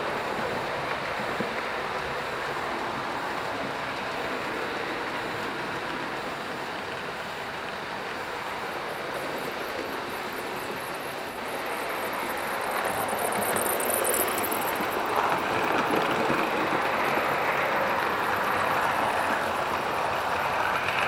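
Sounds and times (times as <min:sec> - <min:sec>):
model train wheels rumbling: 0:00.0 - 0:21.0.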